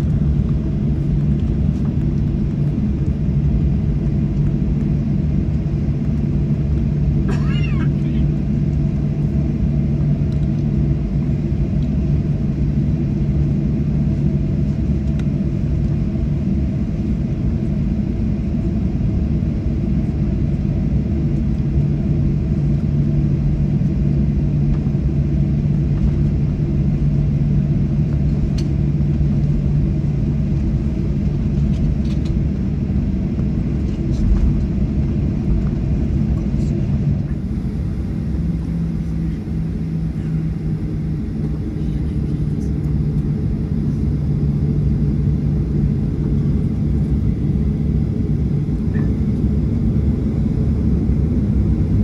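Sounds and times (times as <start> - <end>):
airplane cabin engine rumble: 0.0 - 52.0.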